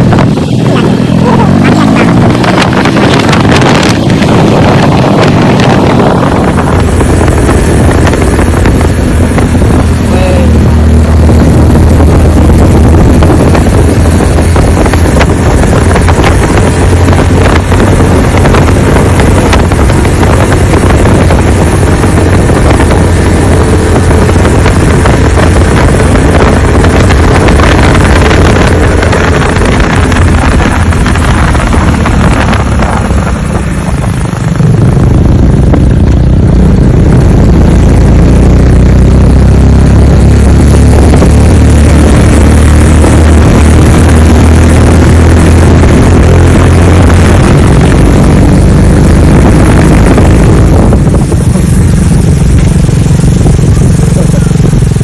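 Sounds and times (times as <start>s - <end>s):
vehicle rumbling: 0.0s - 55.0s
wind noise on microphone: 0.0s - 55.0s.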